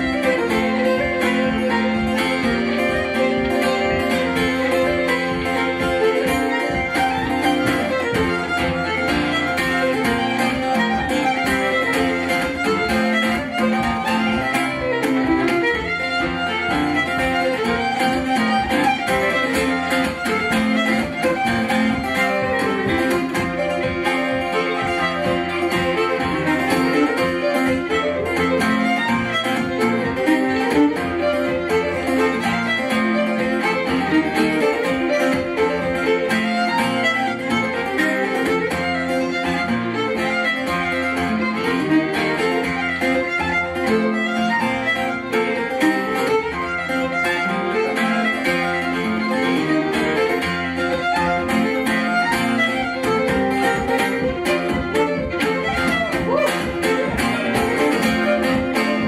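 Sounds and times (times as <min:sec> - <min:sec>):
fiddle melody: 0:00.0 - 0:59.0
strummed acoustic guitar: 0:00.0 - 0:59.0.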